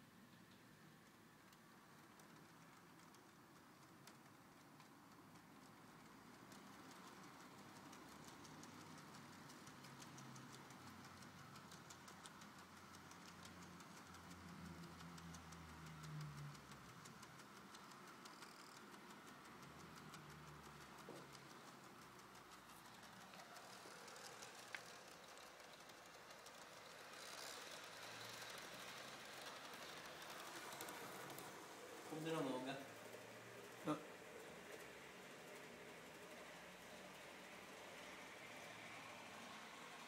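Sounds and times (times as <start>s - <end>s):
train wheels clicking over rails: 0.3s - 40.0s.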